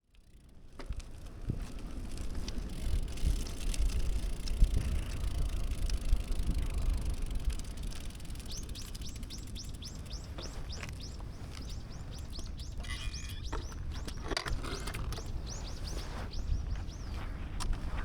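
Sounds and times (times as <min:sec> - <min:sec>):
bicycle road rumble: 0:00.0 - 0:18.0
light bicycle clicks: 0:00.0 - 0:18.0.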